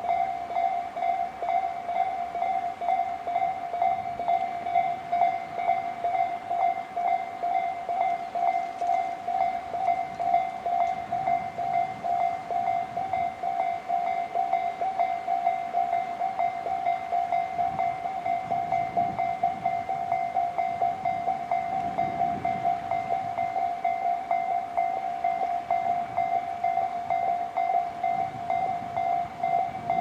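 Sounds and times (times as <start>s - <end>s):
level crossing warning bells: 0.0s - 30.0s.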